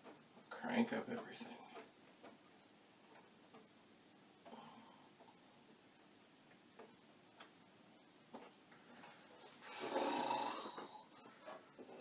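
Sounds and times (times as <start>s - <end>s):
faint room hiss: 0.0s - 12.0s.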